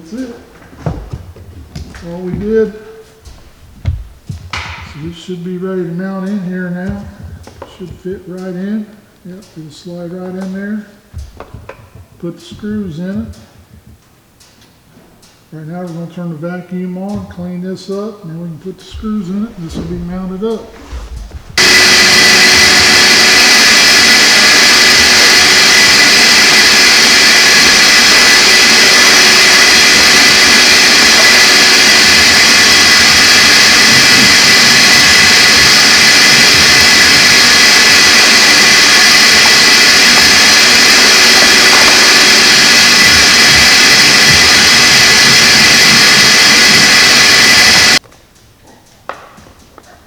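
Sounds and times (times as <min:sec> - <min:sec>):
vacuum cleaner whining: 0:00.0 - 0:48.0.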